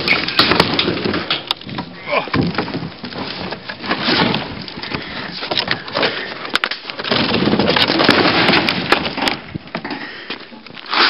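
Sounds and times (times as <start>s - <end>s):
wooden boards cracking and splintering: 0.0s - 11.0s.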